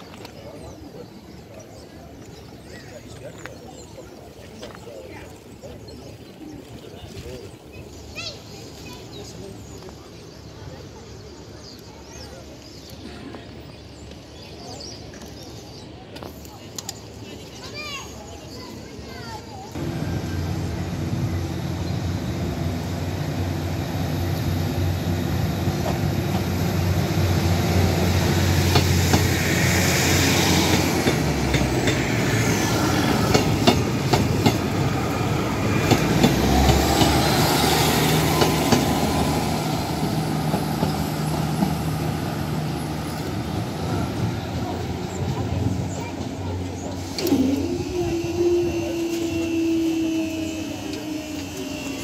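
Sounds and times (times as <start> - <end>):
train engines droning: 0.0 - 52.0.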